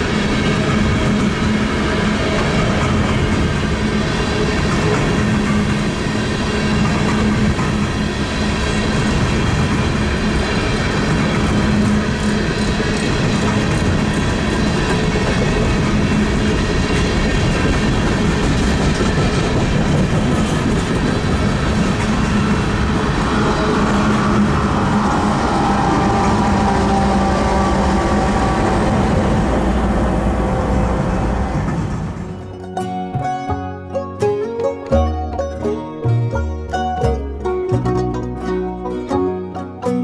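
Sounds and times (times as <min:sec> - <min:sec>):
wheels clicking over rails: 0:00.0 - 0:33.4
diesel locomotive engine whine: 0:00.0 - 0:40.0
freight train rumbling past: 0:00.0 - 0:40.0.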